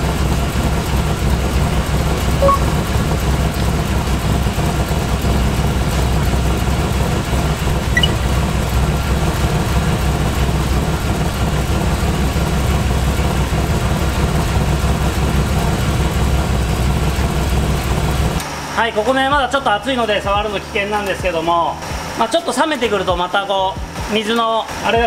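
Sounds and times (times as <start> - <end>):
car engine idling: 0.0 - 24.3.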